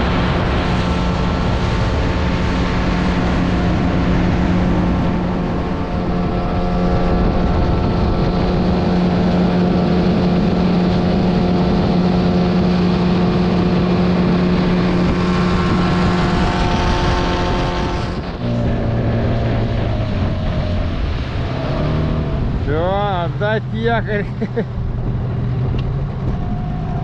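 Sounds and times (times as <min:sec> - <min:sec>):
outboard motor running: 0:00.0 - 0:27.0
water rushing along hull: 0:00.0 - 0:27.0.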